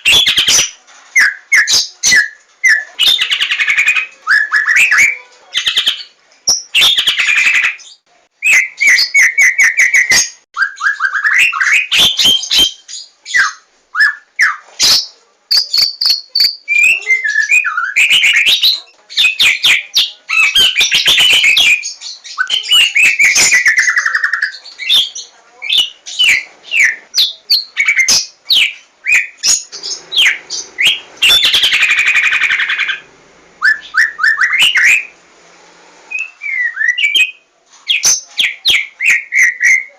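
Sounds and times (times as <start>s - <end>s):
bird singing whistled phrases: 1.2s - 7.7s, 8.4s - 33.0s, 33.6s - 35.2s, 36.1s - 39.9s.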